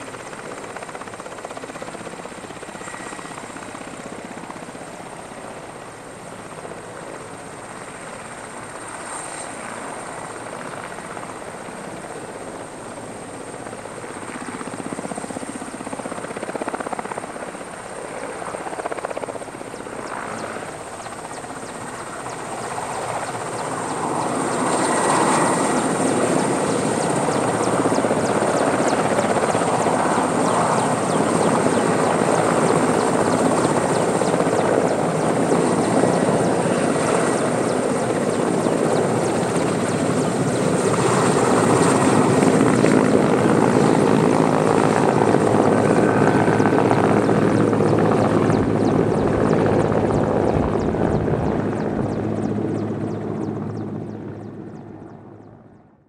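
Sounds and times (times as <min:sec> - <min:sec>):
helicopter rotor beat: 0:00.0 - 0:56.0.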